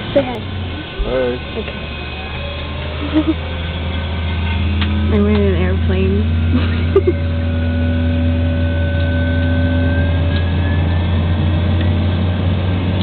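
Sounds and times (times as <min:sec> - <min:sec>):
propeller engines droning: 0:00.0 - 0:13.0
thin engine whine: 0:00.0 - 0:13.0.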